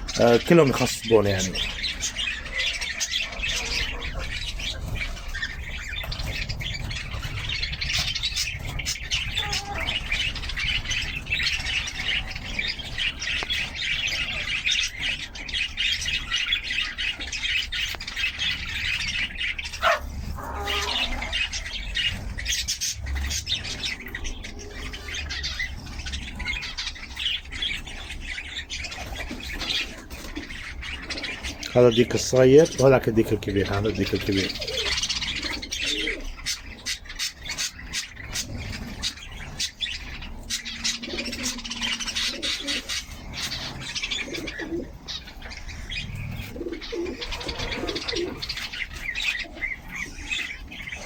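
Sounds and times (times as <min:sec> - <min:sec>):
birds chirping and squawking: 0:00.0 - 0:51.0.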